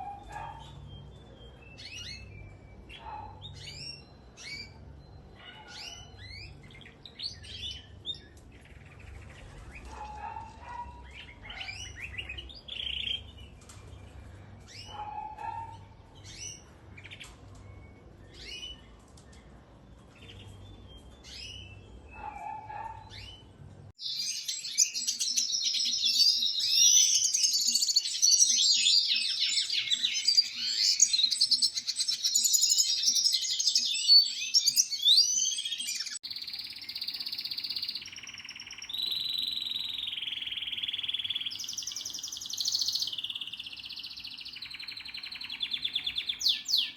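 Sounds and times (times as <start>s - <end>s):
cage birds chirping: 0.0s - 46.9s
dense continuous birdsong: 0.0s - 46.9s.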